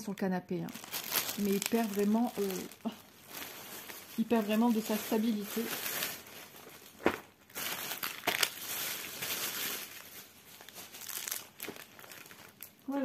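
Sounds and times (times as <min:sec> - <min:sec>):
packaging crinkling and rustling: 0:00.7 - 0:13.0.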